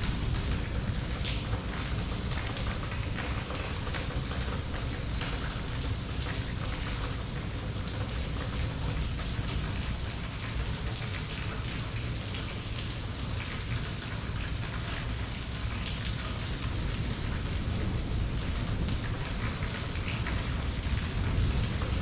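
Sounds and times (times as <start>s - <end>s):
continuous low rumble: 0.0s - 22.0s
rain drops pattering: 0.0s - 22.0s.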